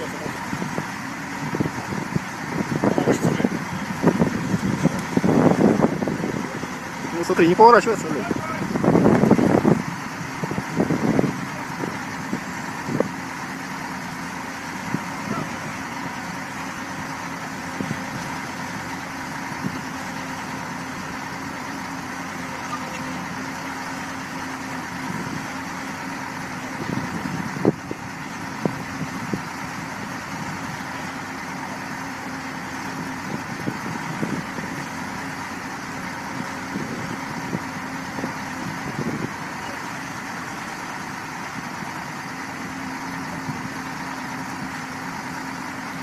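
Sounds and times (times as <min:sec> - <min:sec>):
diesel engines running: 0:00.0 - 0:46.0.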